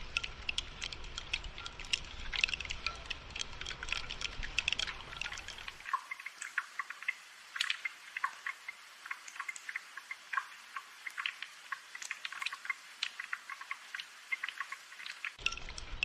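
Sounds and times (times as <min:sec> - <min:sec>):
rain drips and taps: 0:00.0 - 0:16.0.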